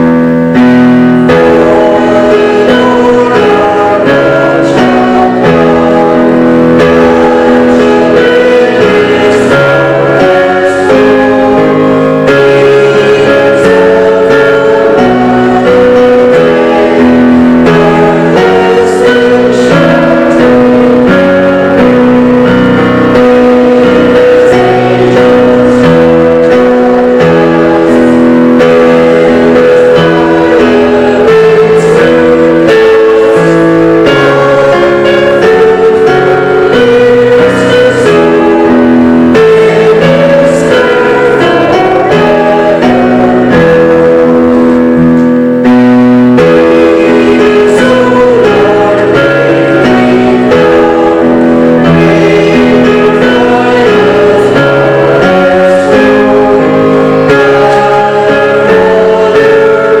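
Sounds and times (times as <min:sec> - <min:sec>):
guitar accompaniment: 0:00.0 - 1:00.0
voices singing a hymn: 0:00.0 - 1:00.0.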